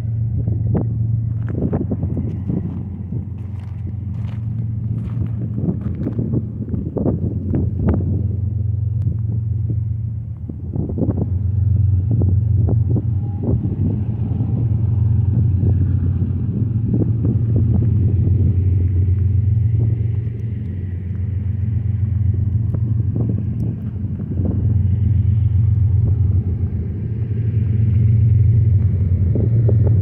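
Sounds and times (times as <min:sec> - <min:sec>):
freight train rumbling: 0:00.0 - 0:30.0
wind buffeting microphone: 0:00.0 - 0:30.0.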